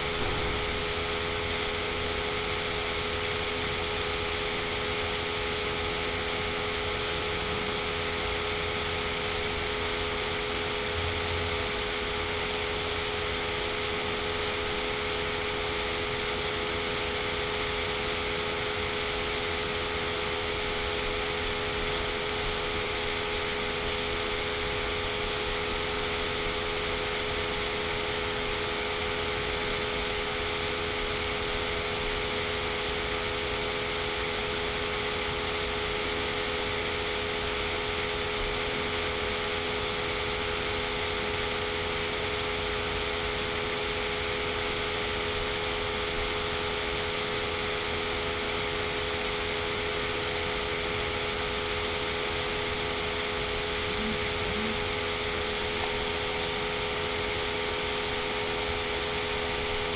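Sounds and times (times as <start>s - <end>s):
constant hum: 0.0s - 43.0s, 43.6s - 59.9s
fan whirring hiss: 0.0s - 59.9s.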